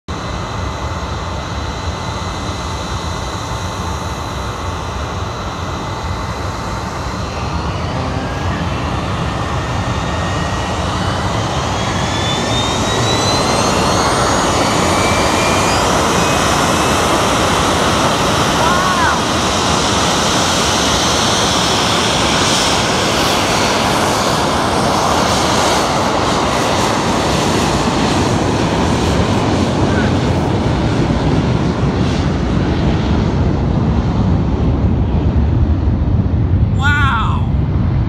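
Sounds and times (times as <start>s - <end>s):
jet engine roar: 0.1s - 38.0s
jet engine whine: 0.1s - 38.0s.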